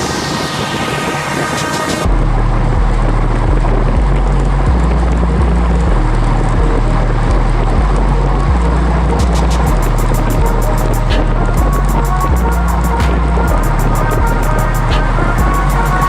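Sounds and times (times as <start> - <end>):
background music with bass line: 0.0 - 16.0
wind roaring over microphone: 0.0 - 16.0.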